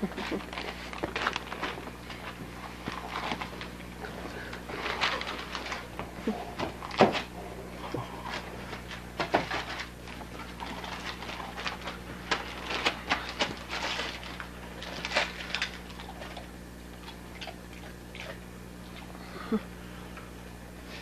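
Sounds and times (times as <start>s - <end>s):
dogs tearing wrapping paper: 0.0s - 7.4s, 8.2s - 19.2s.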